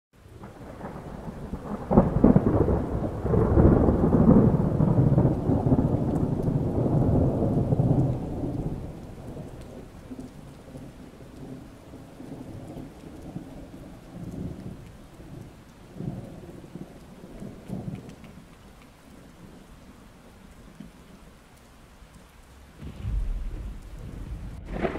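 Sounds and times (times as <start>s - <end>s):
steady rain: 0.2s - 24.9s
thunder rumbling: 0.3s - 18.5s, 22.5s - 24.9s.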